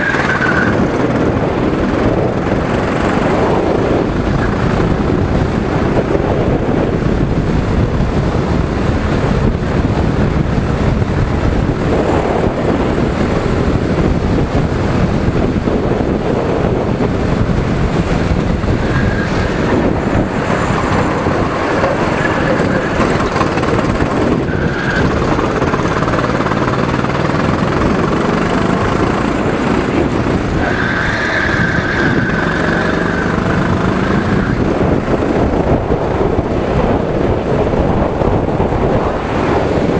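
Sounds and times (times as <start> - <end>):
go-kart engine running: 0.0 - 39.9
wind noise on microphone: 0.0 - 39.9.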